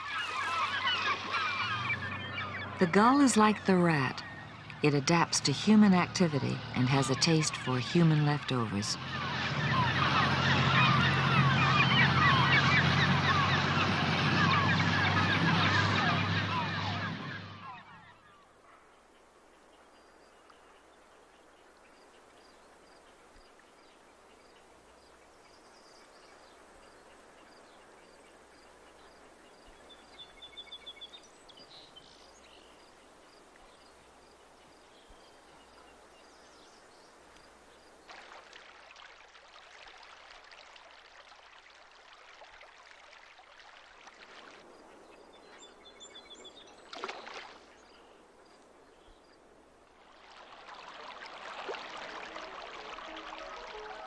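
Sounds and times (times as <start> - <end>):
running and lapping water: 0.0 - 54.0.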